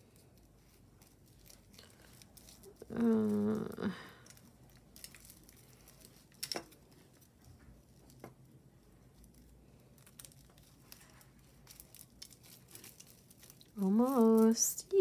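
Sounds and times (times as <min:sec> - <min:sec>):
jewelry chains clicking and rustling: 0:00.0 - 0:15.0.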